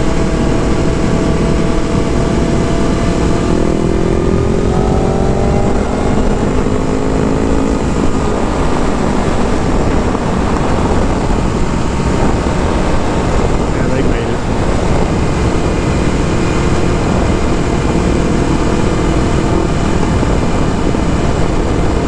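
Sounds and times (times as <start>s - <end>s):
heavy wind rush: 0.0s - 22.0s
motorcycle engine running: 0.0s - 22.0s.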